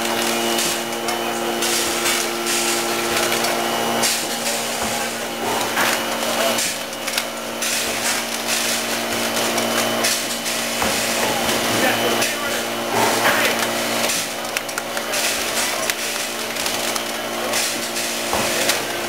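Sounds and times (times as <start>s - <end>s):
packaging machine humming: 0.0s - 19.0s
pneumatic hisses and clacks: 0.0s - 19.0s.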